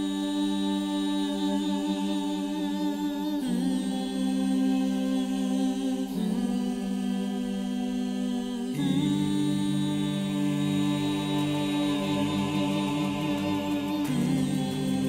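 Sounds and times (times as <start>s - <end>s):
slow music of held chords: 0.0s - 15.0s.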